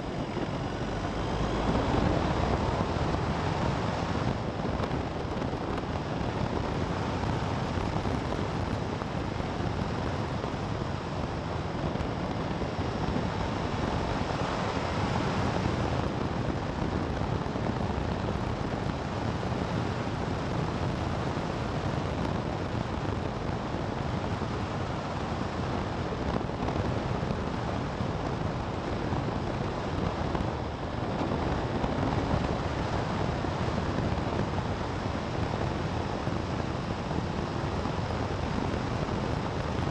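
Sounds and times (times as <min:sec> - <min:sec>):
vehicle running noise: 0:00.0 - 0:39.9
wind on microphone: 0:00.0 - 0:39.9.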